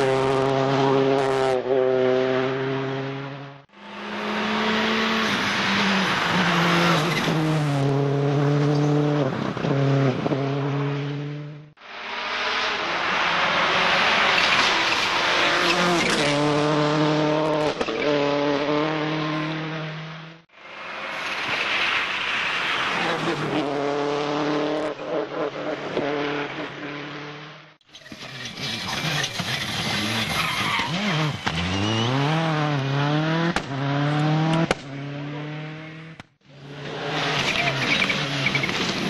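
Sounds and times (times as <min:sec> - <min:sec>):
rally car engine revving: 0:00.0 - 0:20.4, 0:23.0 - 0:27.6, 0:28.2 - 0:39.0.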